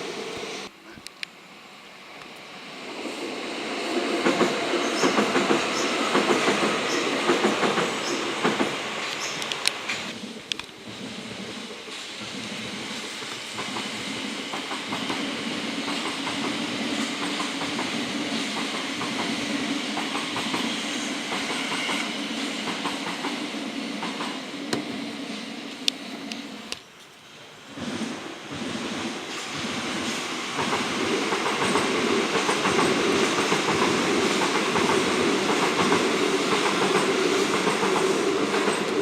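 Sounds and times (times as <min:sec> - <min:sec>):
train rumbling over bridge: 0:00.0 - 0:39.0
train wheel clicks: 0:04.2 - 0:25.0, 0:25.6 - 0:27.1, 0:27.8 - 0:39.0.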